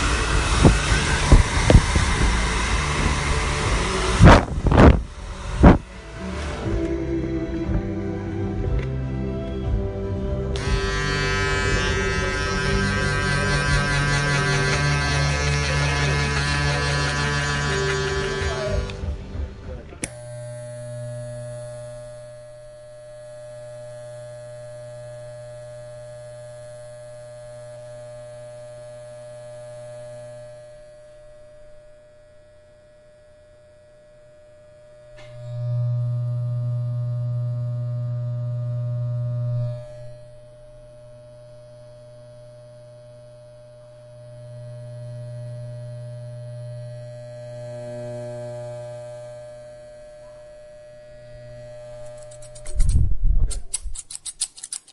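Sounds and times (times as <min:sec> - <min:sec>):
electric hair clippers buzzing: 0:00.0 - 0:54.9.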